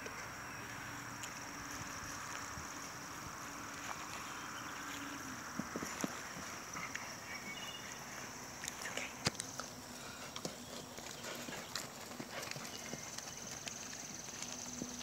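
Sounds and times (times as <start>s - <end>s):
horse hoofbeats on grass: 0.0s - 8.4s, 9.4s - 15.0s.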